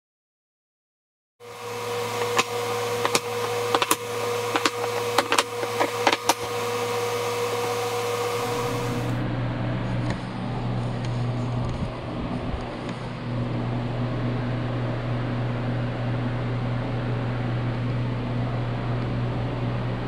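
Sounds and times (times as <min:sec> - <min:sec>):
machine hum: 0:01.4 - 0:20.0.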